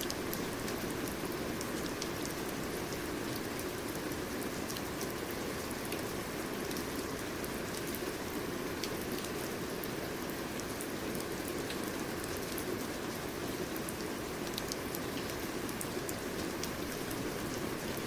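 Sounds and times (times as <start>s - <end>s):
steady rain patter: 0.0s - 18.0s.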